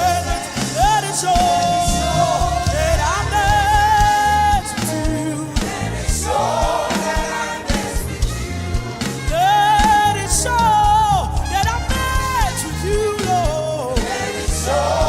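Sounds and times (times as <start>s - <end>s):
group of voices singing: 0.0s - 15.0s
live band with drums and bass: 0.0s - 15.0s.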